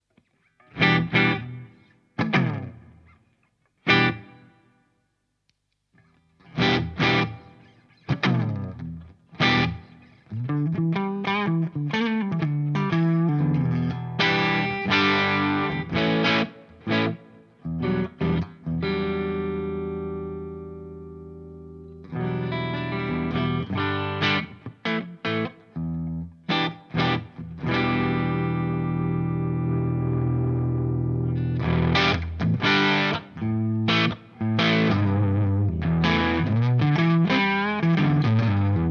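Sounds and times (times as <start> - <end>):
distorted electric guitar: 0.6 - 3.2, 6.4 - 38.9.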